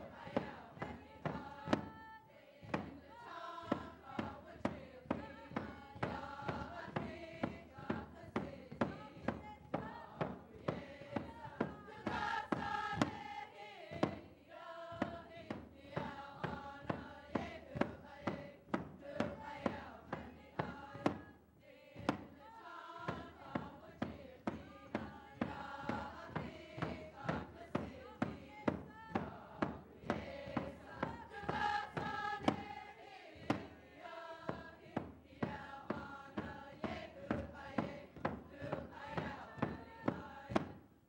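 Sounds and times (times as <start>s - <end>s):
frame drum beat: 0.0s - 40.8s
group singing: 0.0s - 40.8s.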